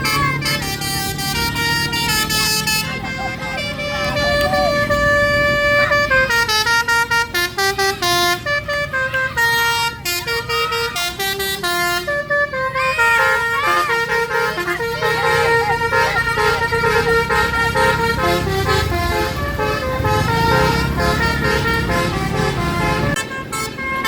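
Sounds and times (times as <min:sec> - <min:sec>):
bus engine running: 0:00.0 - 0:24.0
multi-tone air horn melody: 0:00.0 - 0:24.0.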